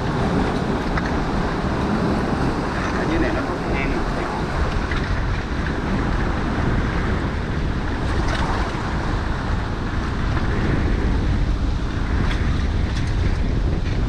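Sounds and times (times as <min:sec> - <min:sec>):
sea water sloshing between boulders: 0:00.0 - 0:14.0
wind buffeting the microphone: 0:00.0 - 0:14.0.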